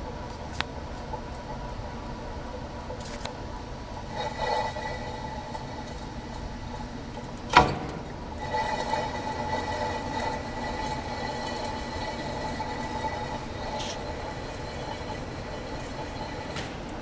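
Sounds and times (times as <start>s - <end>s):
wheel rim spinning metallic whir: 0.0s - 17.0s.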